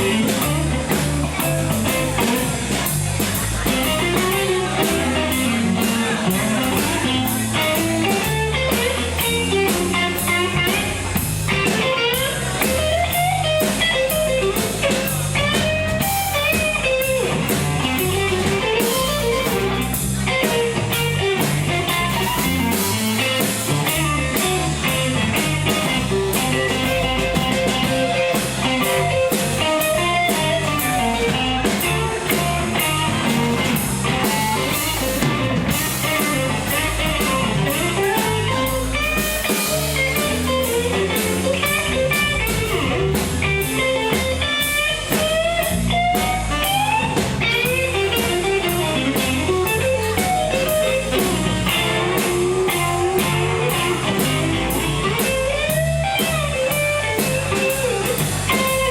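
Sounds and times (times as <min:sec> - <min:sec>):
blues guitar with bent notes: 0:00.0 - 0:58.9
drum kit cymbal beat: 0:00.0 - 0:58.9
walking bass: 0:00.0 - 0:58.9.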